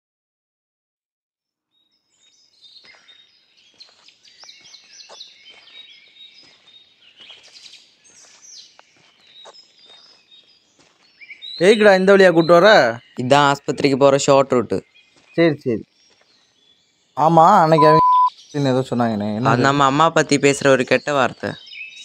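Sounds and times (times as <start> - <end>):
birds chirping: 1.7 - 22.0.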